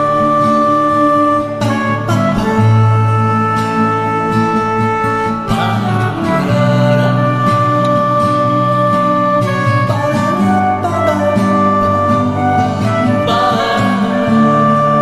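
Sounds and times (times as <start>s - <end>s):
guitar accompaniment: 0.0s - 15.0s
sustained tones: 0.0s - 15.0s.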